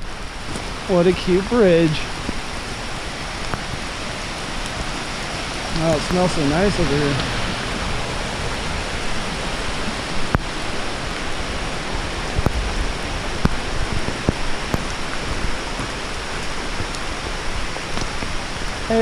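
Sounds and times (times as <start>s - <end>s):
rain hissing: 0.0s - 19.0s
raindrops ticking close by: 0.0s - 19.0s.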